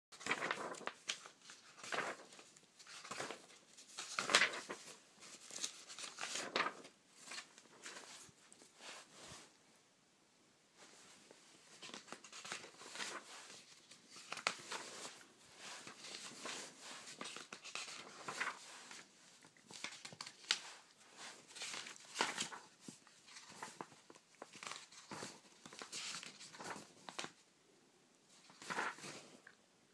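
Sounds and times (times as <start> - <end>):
magazine pages turning: 0.2 - 9.4, 11.7 - 27.4, 28.3 - 29.3.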